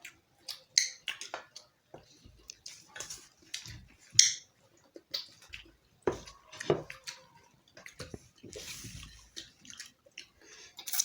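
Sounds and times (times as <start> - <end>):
wet chewing and mouth smacks: 0.0 - 11.0.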